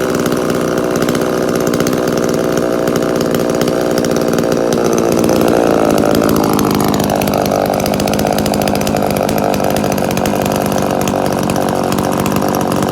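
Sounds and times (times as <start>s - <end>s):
chainsaw engine running: 0.0s - 12.9s.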